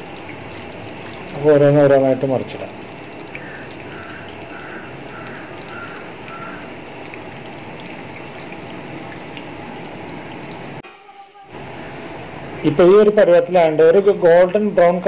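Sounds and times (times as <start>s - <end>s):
hot oil sizzling in a pan: 0.0s - 12.2s.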